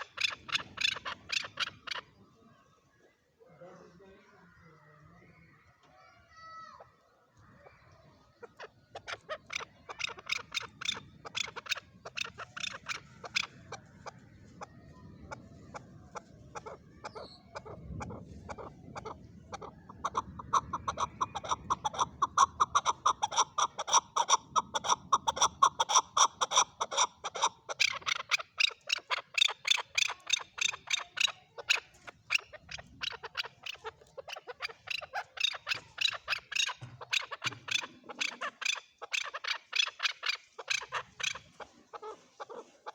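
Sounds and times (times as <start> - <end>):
partridge calling rapid notes: 0.0 - 2.1, 8.4 - 14.6, 15.3 - 42.9.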